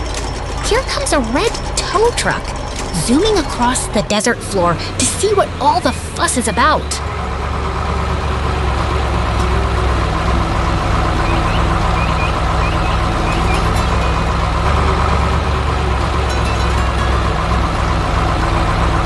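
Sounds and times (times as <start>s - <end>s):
heavy vehicle engine running: 0.0s - 19.0s.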